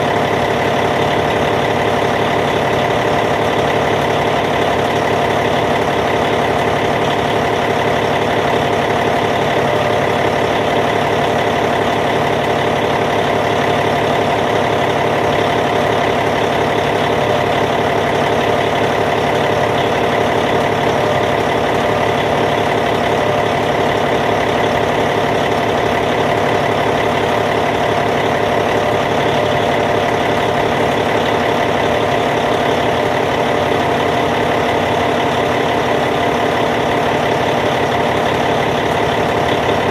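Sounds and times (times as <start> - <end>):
diesel bulldozer engine idling: 0.0 - 39.9.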